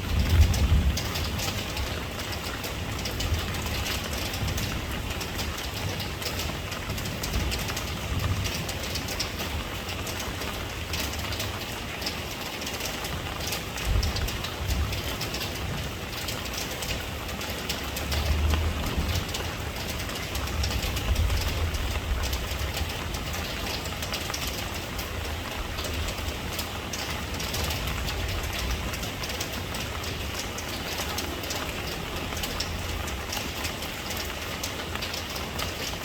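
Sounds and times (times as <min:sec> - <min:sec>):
rain drops ticking on a surface: 0:00.0 - 0:36.0.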